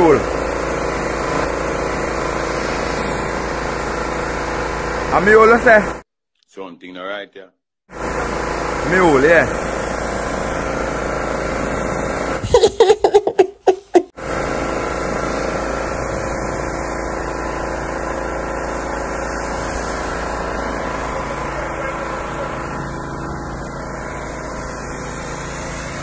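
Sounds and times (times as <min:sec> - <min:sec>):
pressure washer motor spraying: 0:00.2 - 0:05.2, 0:08.0 - 0:13.0, 0:14.4 - 0:26.0.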